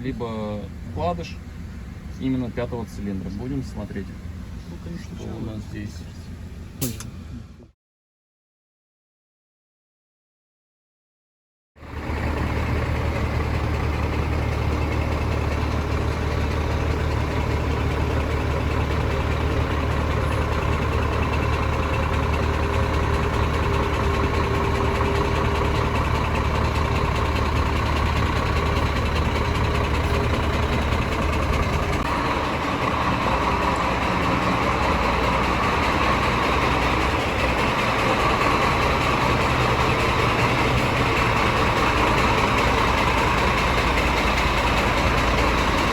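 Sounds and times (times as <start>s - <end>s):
diesel engine running: 0.0s - 7.7s, 11.8s - 45.9s.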